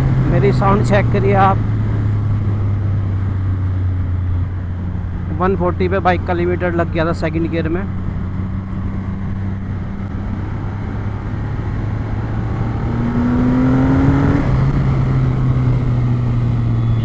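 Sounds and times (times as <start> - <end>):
wind rush over microphone: 0.0 - 17.0.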